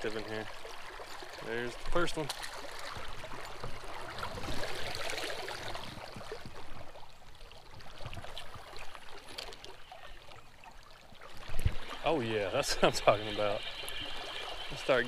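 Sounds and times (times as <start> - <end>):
creek water trickling over rocks: 0.0 - 15.0.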